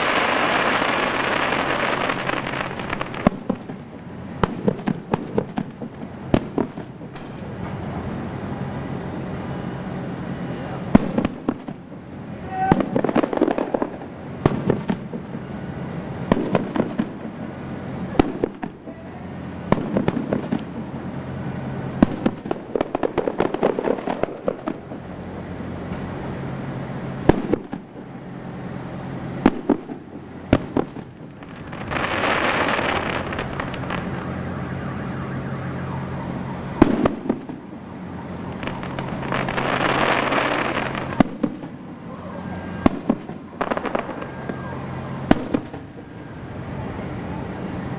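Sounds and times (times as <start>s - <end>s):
fireworks bursting with bangs: 0.0s - 47.9s
fireworks hissing: 0.0s - 47.9s.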